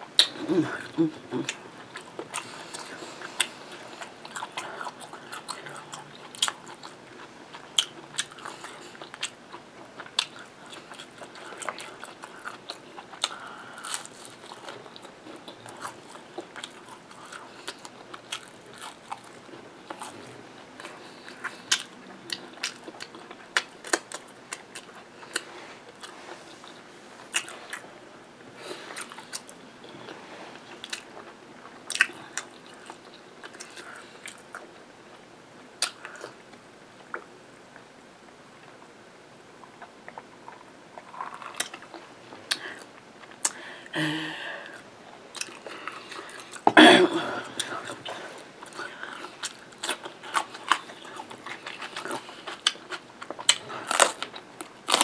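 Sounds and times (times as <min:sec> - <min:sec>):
person chewing food: 0:00.1 - 0:28.0, 0:28.6 - 0:35.2, 0:35.8 - 0:37.3, 0:39.6 - 0:55.0.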